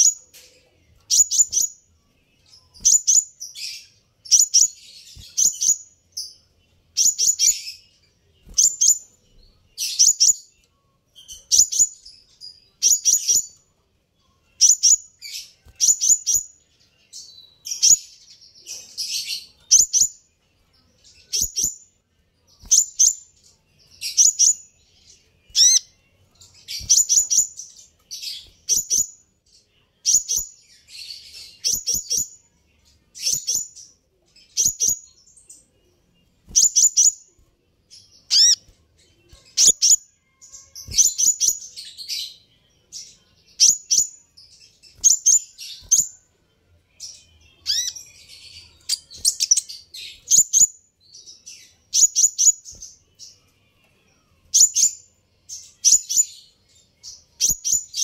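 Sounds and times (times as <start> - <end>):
small bird chirping: 0.0 - 58.0.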